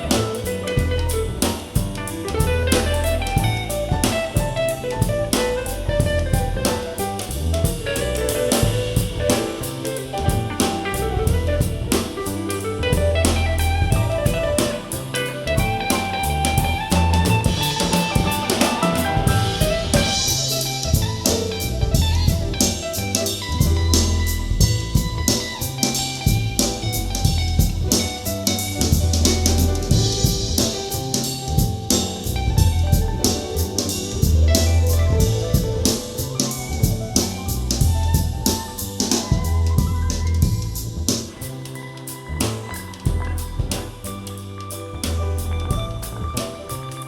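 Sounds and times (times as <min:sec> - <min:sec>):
drum kit beat: 0:00.0 - 0:47.0
soul jazz instrumental: 0:00.0 - 0:47.0.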